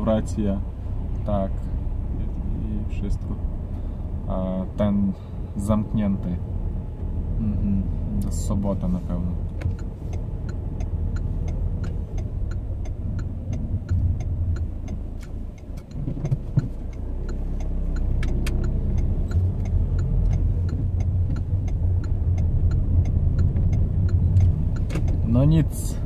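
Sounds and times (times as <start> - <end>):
car engine and tyres rumbling: 0.0 - 26.0
turn signal ticking: 0.0 - 26.0.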